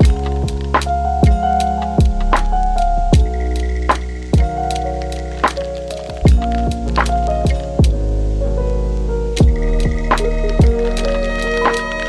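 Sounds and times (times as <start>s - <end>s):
lo-fi hip hop beat: 0.0s - 12.0s.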